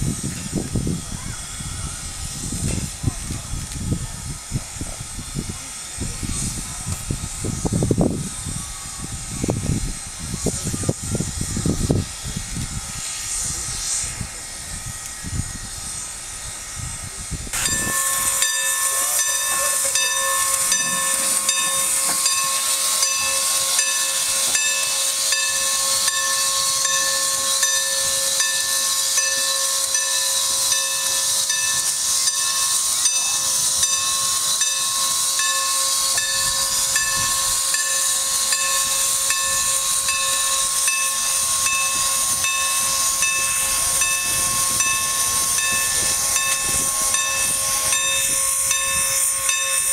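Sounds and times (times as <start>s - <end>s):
steam locomotive venting steam: 0.0s - 49.9s.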